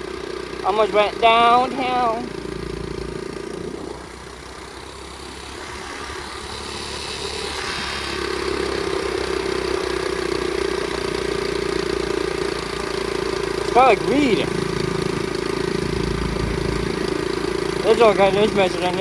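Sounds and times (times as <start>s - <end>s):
pit bike engine running: 0.0s - 19.0s.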